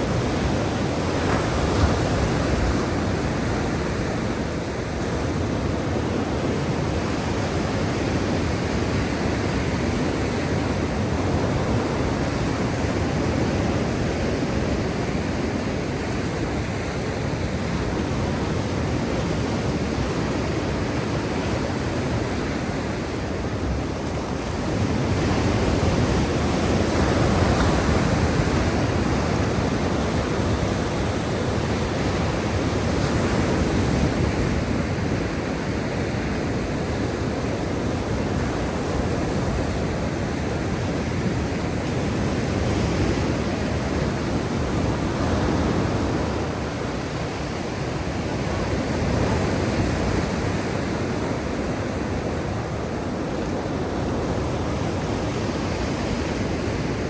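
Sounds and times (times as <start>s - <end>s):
sea waves surging: 0.0s - 57.0s.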